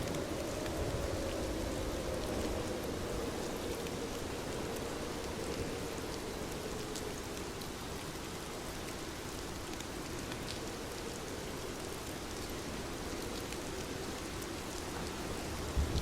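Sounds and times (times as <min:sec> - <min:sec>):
raindrop ticks: 0:00.0 - 0:16.0
steady rain hiss: 0:00.0 - 0:16.0.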